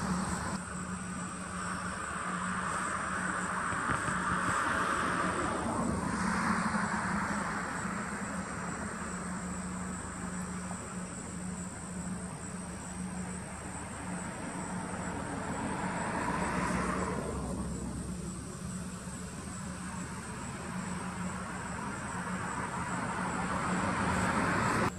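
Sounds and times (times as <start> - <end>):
distant traffic hum: 0.0 - 24.9
passing vehicles rushing: 0.0 - 24.9.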